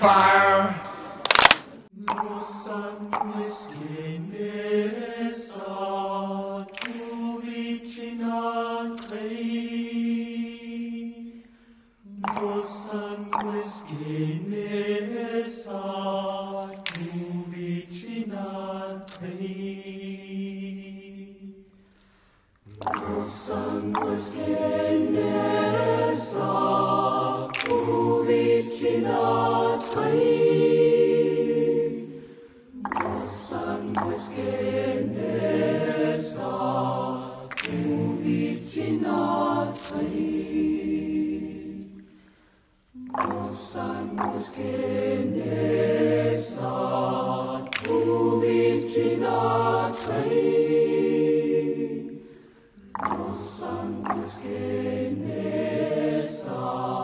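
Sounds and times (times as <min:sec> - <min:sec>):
mixed choir singing in harmony: 0:02.1 - 0:11.5, 0:12.2 - 0:21.7, 0:22.8 - 0:57.0.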